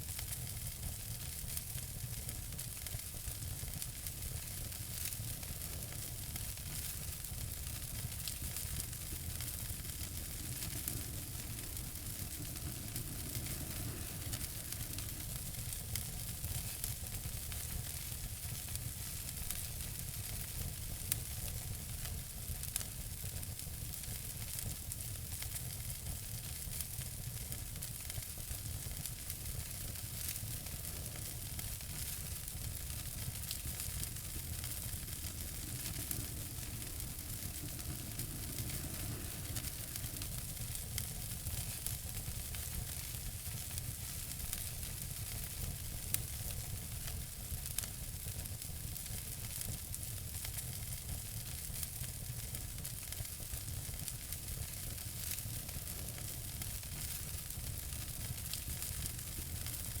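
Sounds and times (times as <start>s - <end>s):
fire crackling and popping: 0.0s - 60.0s
wood fire hissing: 0.0s - 60.0s.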